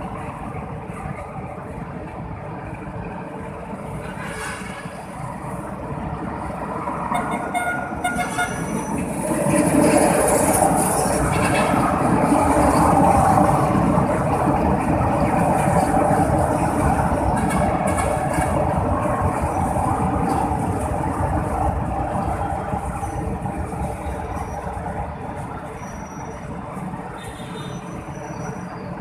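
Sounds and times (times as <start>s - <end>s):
light rail train rumbling past: 0.0s - 29.0s.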